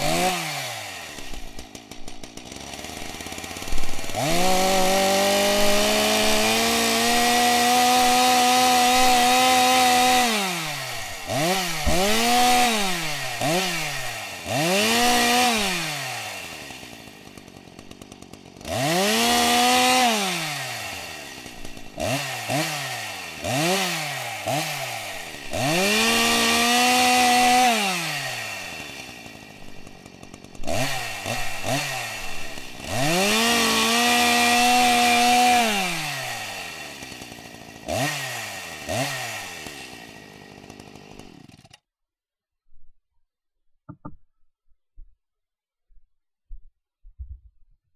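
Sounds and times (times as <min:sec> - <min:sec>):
chainsaw revving: 0:00.0 - 0:41.8.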